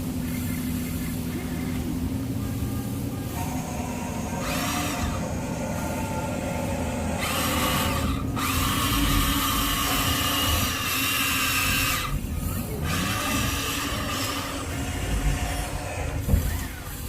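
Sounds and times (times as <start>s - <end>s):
small electric motors whining: 0.0s - 17.0s
steady low hum: 0.0s - 17.0s.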